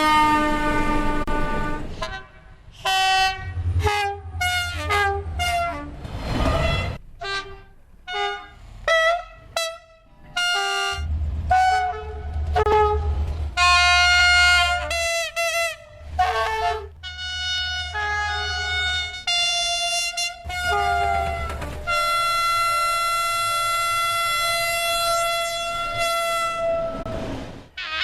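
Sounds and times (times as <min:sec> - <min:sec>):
train horn blasts: 0:00.0 - 0:06.0, 0:06.6 - 0:28.0
locomotive engine rumble: 0:00.0 - 0:28.0.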